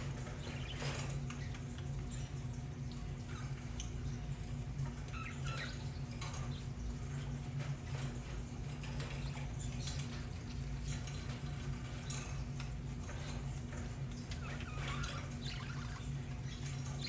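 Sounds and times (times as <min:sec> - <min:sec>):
budgerigars chirping and clicking: 0:00.0 - 0:17.0
steady low hum: 0:00.0 - 0:17.0.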